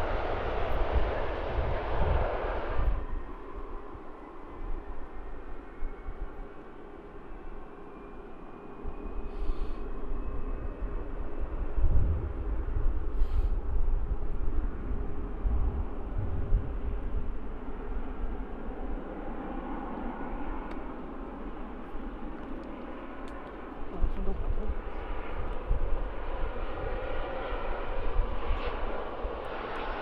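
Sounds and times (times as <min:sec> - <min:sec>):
wind rumbling on microphone: 0:00.0 - 0:06.8, 0:08.8 - 0:30.0
distant jet engines running: 0:00.0 - 0:30.0.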